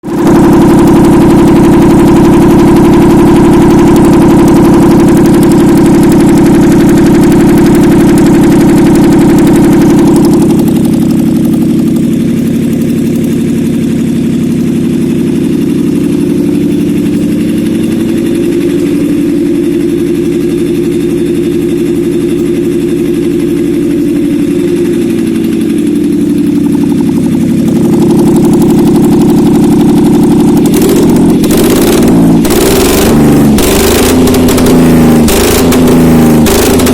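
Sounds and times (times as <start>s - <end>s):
three-cylinder engine running: 0.0s - 36.9s.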